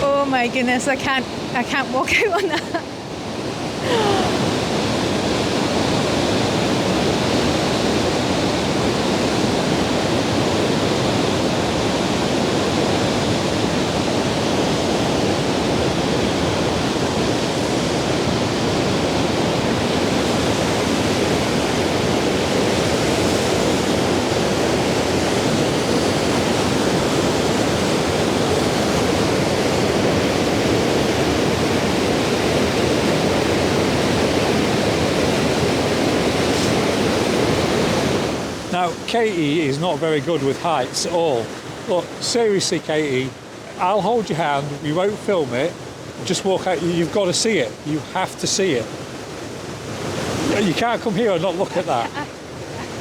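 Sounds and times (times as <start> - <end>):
waterfall thundering: 0.0 - 53.0.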